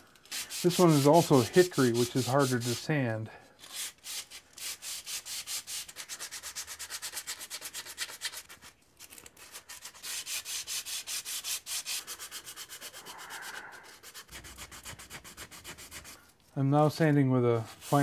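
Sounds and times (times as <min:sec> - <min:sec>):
sandpaper sanding wood: 0:00.2 - 0:02.9, 0:03.6 - 0:08.8, 0:09.4 - 0:16.2, 0:17.6 - 0:18.0.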